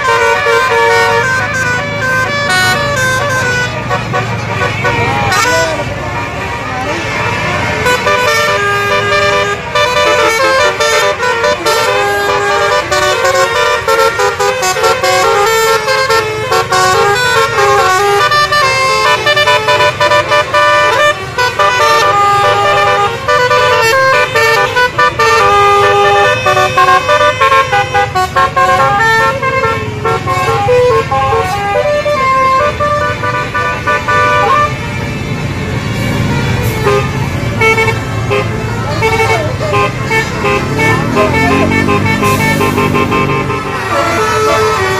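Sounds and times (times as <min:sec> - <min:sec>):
engine rumble: 0:00.0 - 0:44.9
musical air horns playing melody: 0:00.0 - 0:44.9.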